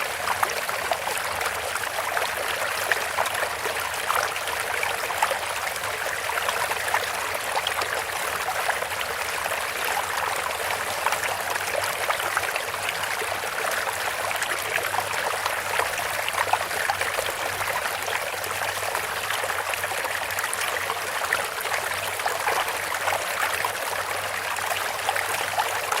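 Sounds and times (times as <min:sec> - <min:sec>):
water trickling and splashing: 0:00.0 - 0:26.0.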